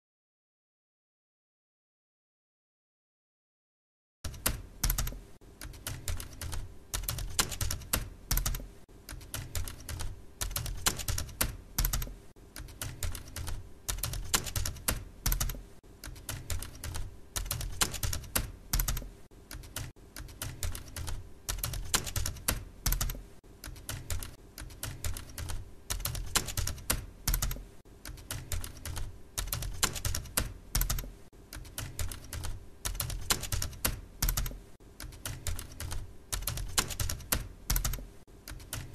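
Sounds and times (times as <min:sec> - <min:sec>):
computer keyboard keys clicking: 0:04.3 - 0:38.9.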